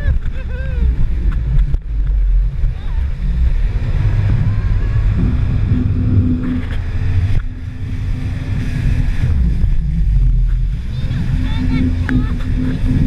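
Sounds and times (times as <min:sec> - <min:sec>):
jet ski engine drone: 0:00.0 - 0:13.0
wind buffeting microphone: 0:00.0 - 0:13.0.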